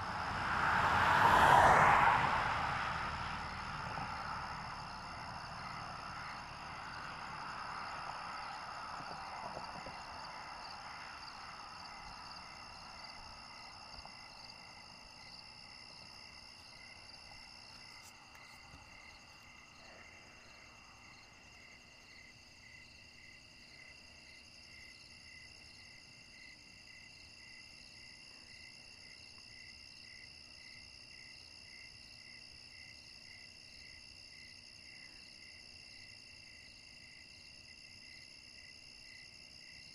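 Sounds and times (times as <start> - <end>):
crickets and insects chirring: 0.0 - 39.9.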